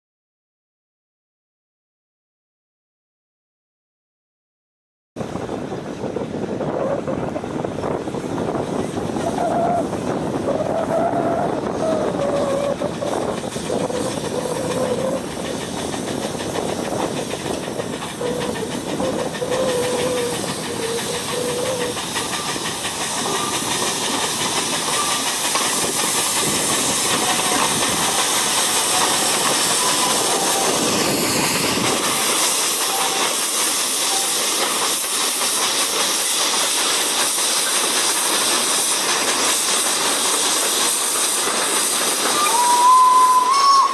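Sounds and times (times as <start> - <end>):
steam locomotive hissing: 5.2 - 43.9.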